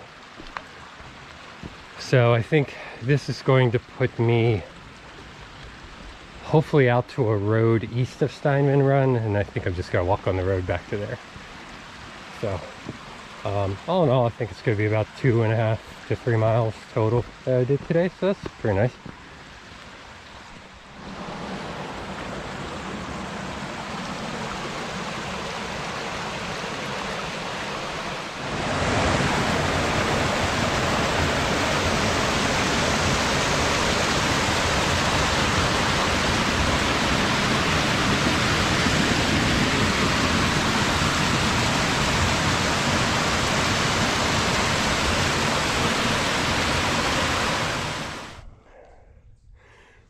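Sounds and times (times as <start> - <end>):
creek water running over rocks: 0.0 - 48.4
small waterfall rushing: 0.0 - 48.4.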